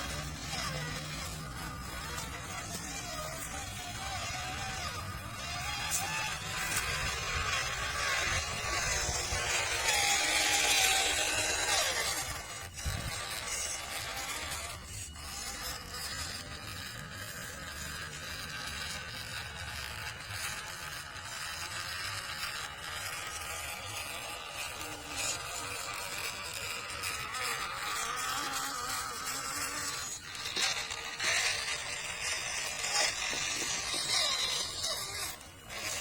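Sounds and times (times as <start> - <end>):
toy car motor whining: 0.0 - 36.0.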